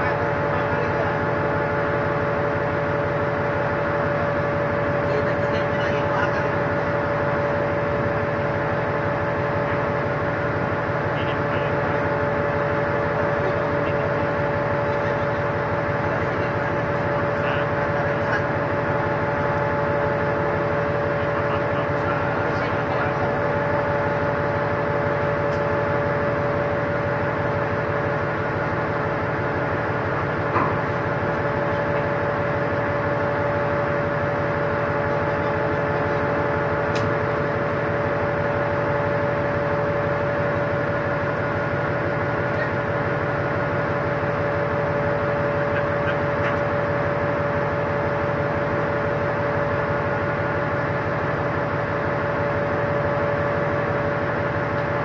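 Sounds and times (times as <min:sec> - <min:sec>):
ship machinery hum: 0:00.0 - 0:55.0.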